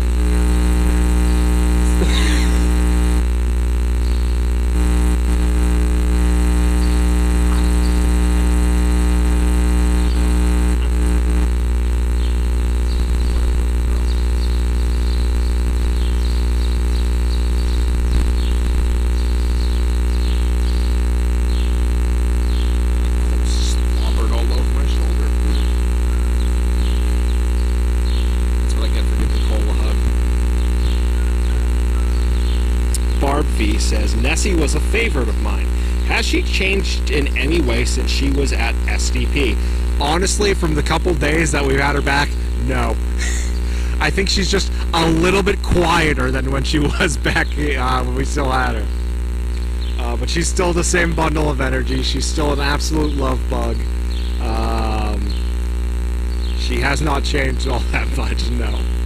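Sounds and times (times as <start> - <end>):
steady low electrical hum: 0.0 - 59.0.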